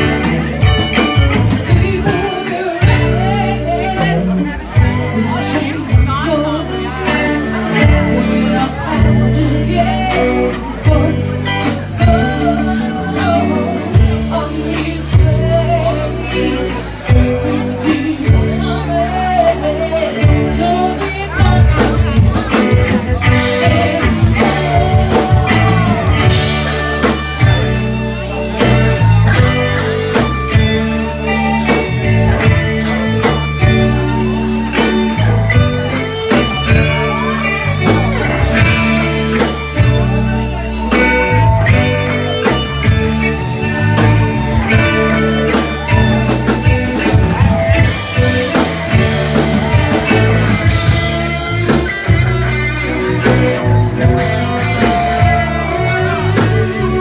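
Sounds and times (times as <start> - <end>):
bending lead guitar lines: 0.0 - 57.0
live blues band playing: 0.0 - 57.0.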